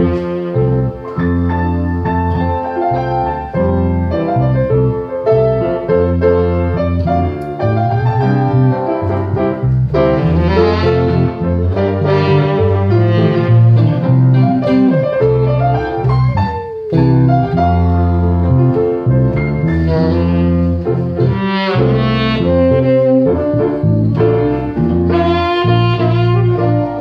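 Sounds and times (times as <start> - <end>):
saxophone melody: 0.0 - 5.0, 6.0 - 18.7, 19.3 - 27.0
electric bass guitar: 0.0 - 27.0
piano: 0.0 - 27.0.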